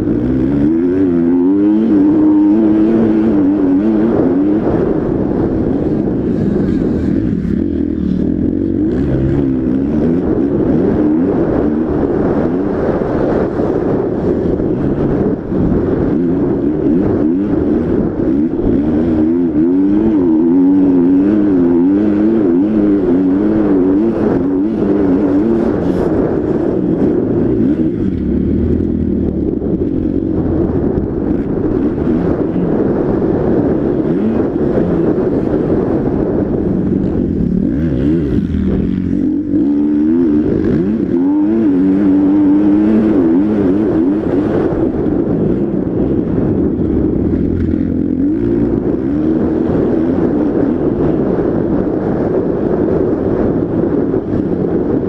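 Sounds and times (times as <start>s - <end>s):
motocross bike engine revving: 0.0s - 51.8s.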